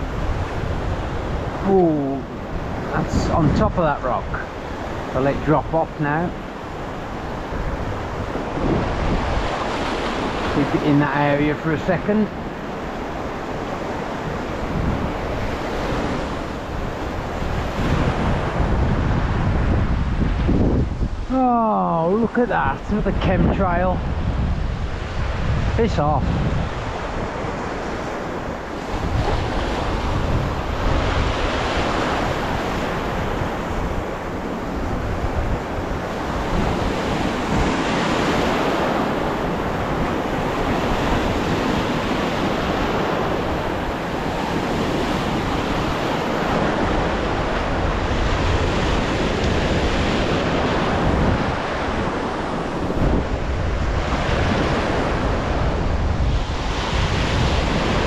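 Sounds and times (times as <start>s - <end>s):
surf breaking in shallows: 0.0s - 58.0s
wind on microphone: 0.0s - 58.0s.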